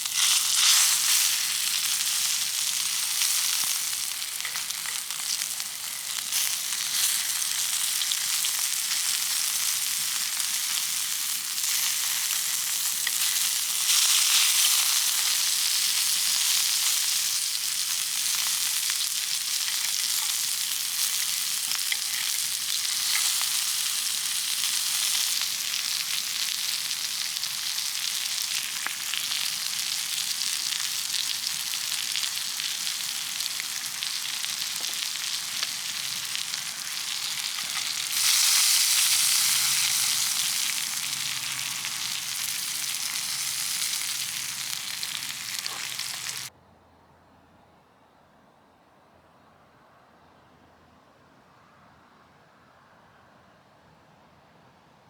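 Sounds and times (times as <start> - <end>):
food sizzling in a pan: 0.0 - 46.5.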